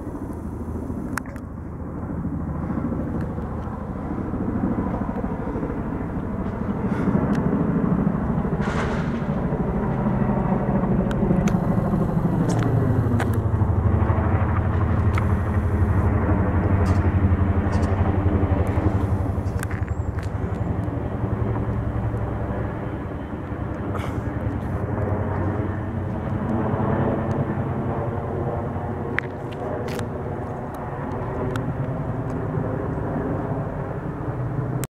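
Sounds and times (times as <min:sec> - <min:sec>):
helicopter rotors chopping overhead: 0:00.0 - 0:34.9.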